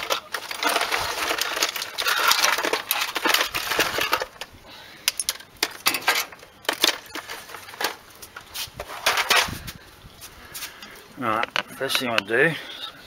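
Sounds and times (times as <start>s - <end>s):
tools rustling and clattering: 0.0s - 12.4s.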